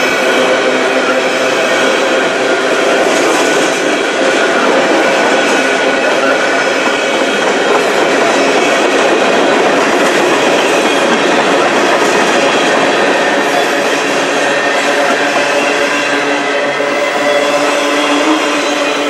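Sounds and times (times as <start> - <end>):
freight train wheels rattling on rails: 0.0 - 19.0.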